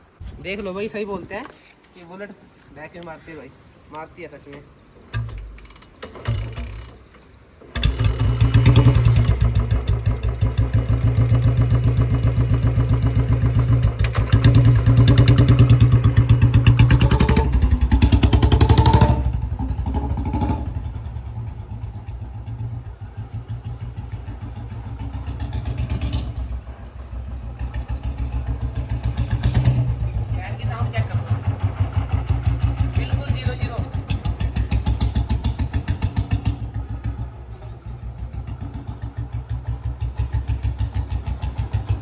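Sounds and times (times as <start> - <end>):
motorcycle engine beat: 7.8 - 42.0.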